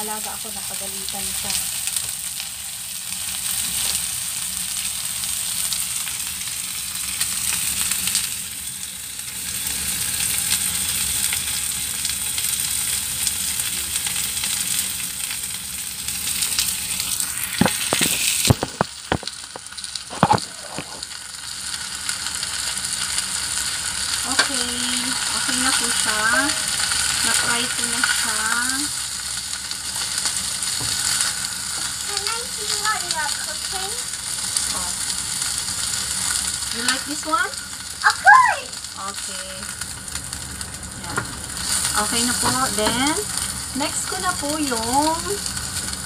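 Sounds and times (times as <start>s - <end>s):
chicken frying in oil: 0.0s - 46.0s.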